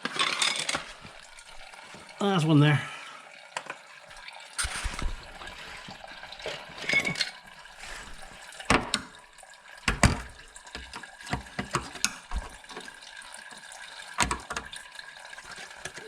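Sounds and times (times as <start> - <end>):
liquid trickling into container: 0.0 - 16.0.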